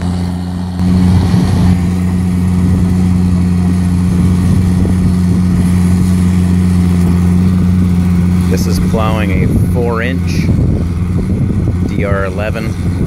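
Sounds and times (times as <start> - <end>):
diesel engine droning under load: 0.0 - 13.0.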